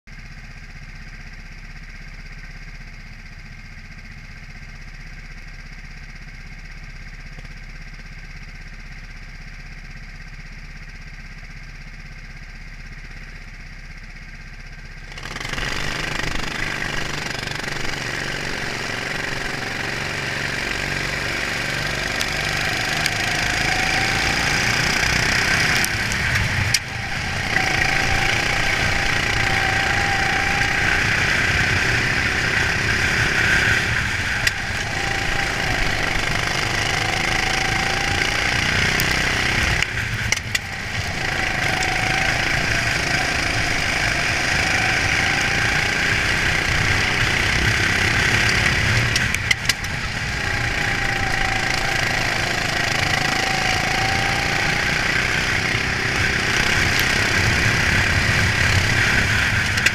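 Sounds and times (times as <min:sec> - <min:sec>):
racing kart engine: 0:00.1 - 0:59.9.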